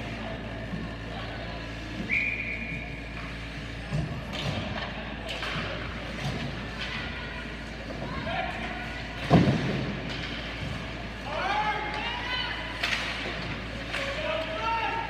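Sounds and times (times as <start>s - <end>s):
low arena hum: 0.0s - 15.0s.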